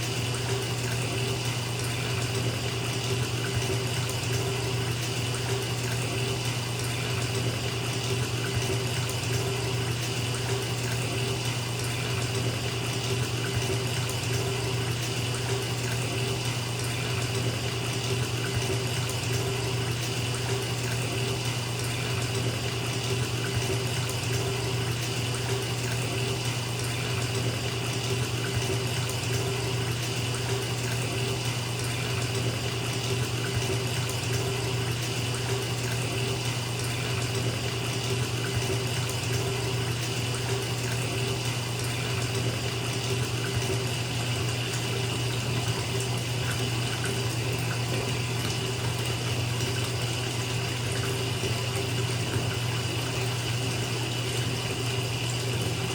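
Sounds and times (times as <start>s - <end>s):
bathtub tap running full: 0.0s - 55.9s.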